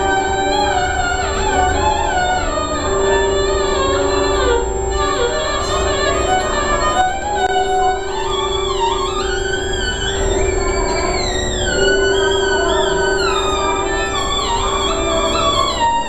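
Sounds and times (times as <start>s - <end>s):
held drone note: 0.0s - 16.0s
violin sliding melody: 0.0s - 16.0s.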